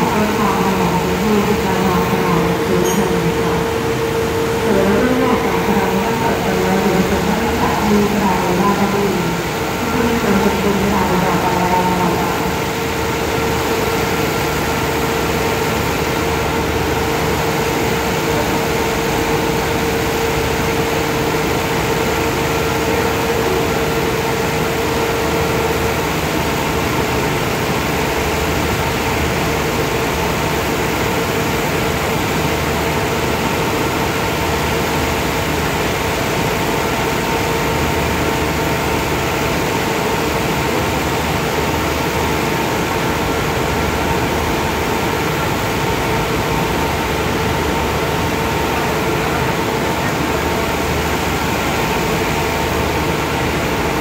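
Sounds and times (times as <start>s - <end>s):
constant engine hum: 0.0s - 54.0s
diesel train engines idling: 0.0s - 54.0s.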